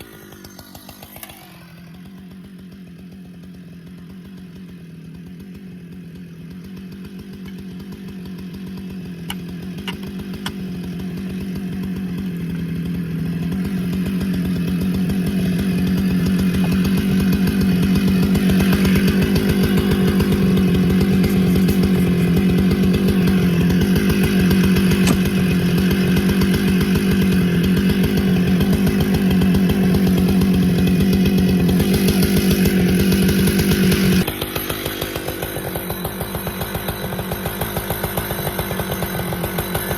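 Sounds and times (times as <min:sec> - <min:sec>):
chainsaw cutting wood at full throttle: 0:00.0 - 0:39.9.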